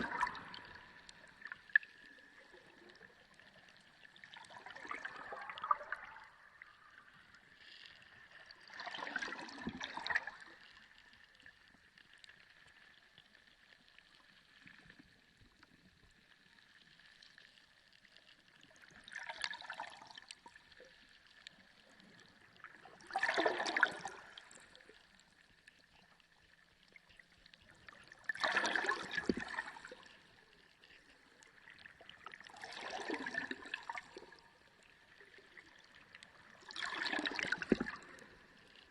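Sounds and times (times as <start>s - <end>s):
water sloshing and gurgling: 0.0s - 38.9s.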